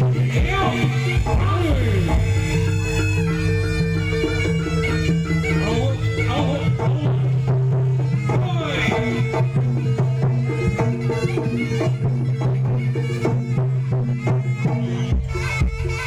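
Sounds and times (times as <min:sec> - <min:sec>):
drumbeats: 0:00.0 - 0:16.0
repeating pitched notes: 0:00.0 - 0:16.0.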